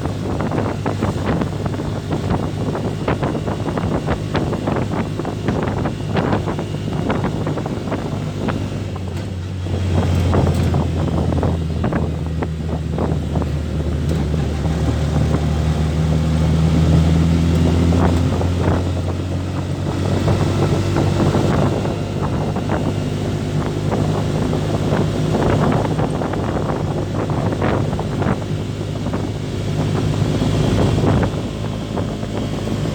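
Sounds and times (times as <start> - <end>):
vehicle engine running: 0.0 - 32.9
wind on microphone: 0.0 - 32.9.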